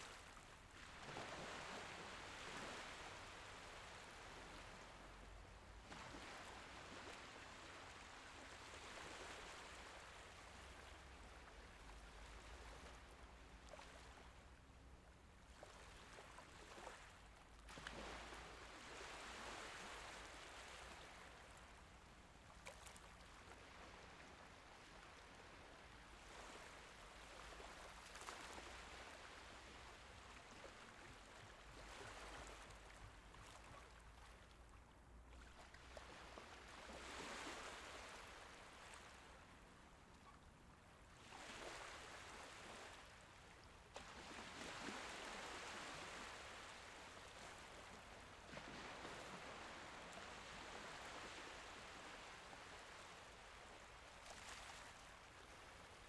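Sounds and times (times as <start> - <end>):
gentle sea waves washing: 0.0 - 56.0.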